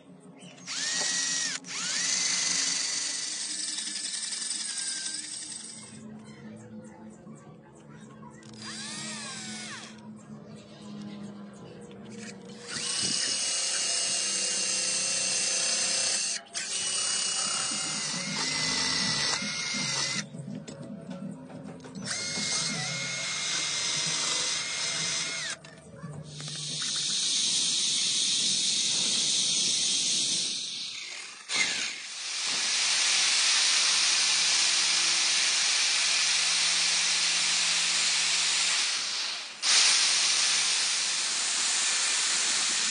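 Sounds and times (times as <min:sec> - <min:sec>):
electric drill motor whine: 0:00.0 - 0:06.1, 0:08.4 - 0:10.1, 0:12.2 - 0:42.9.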